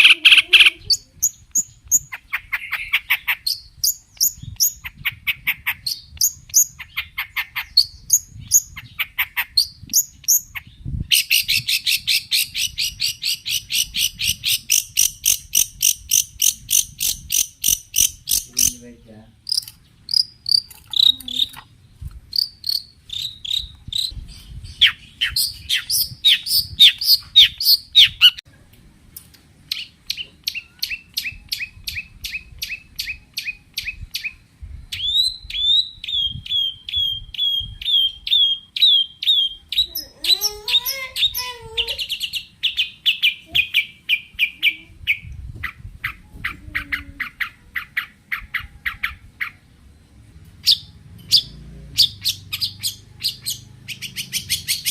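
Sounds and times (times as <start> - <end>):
bird singing sharp repeated notes: 0.0 - 28.4, 29.7 - 40.1, 42.1 - 54.9.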